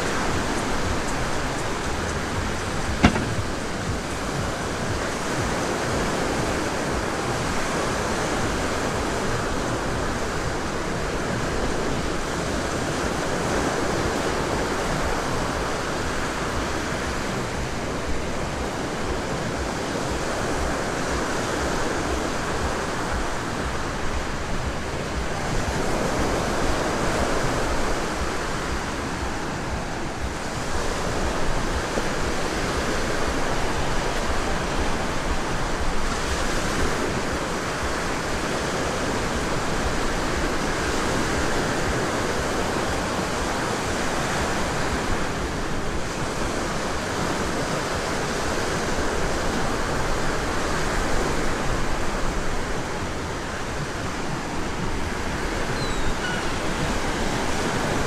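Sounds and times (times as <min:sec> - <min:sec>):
waves washing up a beach: 0:00.0 - 0:58.0.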